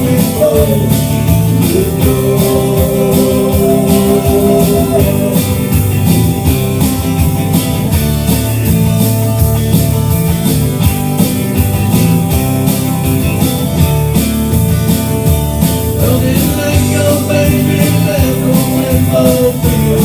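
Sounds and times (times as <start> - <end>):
country rock band playing: 0.0 - 20.0
drum kit beat: 0.0 - 20.0
guitars: 0.0 - 20.0.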